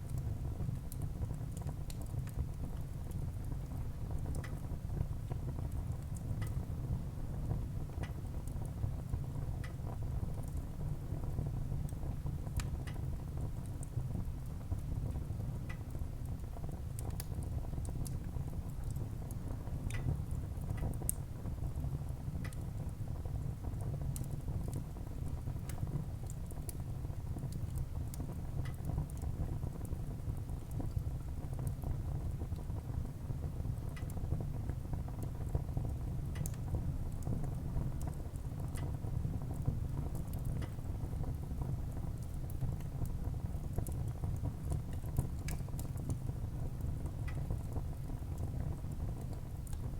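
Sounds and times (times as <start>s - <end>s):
fire flames rumbling: 6.9s - 49.9s.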